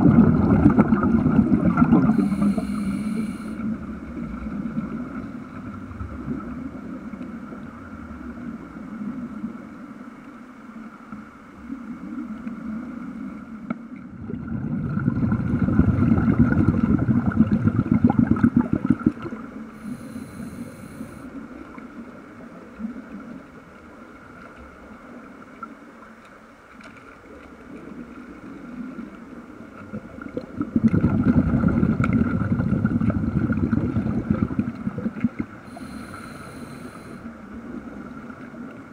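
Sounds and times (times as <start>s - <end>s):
underwater air bubbling: 0.0s - 25.9s, 27.2s - 38.9s.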